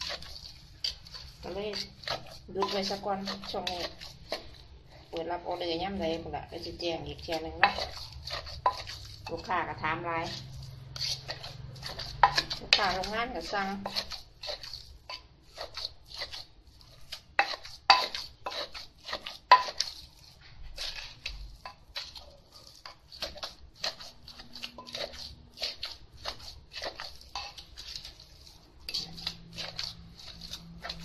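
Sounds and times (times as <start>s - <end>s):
pestle pounding in clay mortar: 0.0s - 20.1s, 20.7s - 31.0s
metal spoon turning paste: 0.0s - 31.0s.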